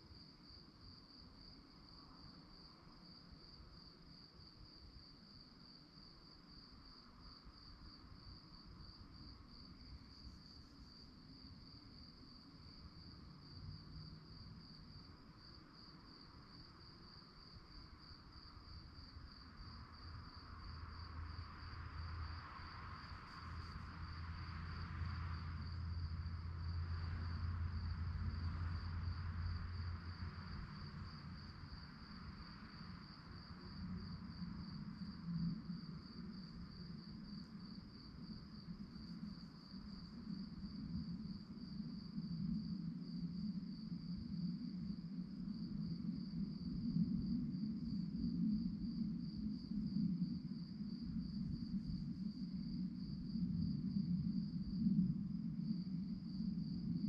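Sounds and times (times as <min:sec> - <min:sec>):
crickets chirping: 0:00.0 - 0:57.0
low rumble with hiss: 0:00.0 - 0:57.0.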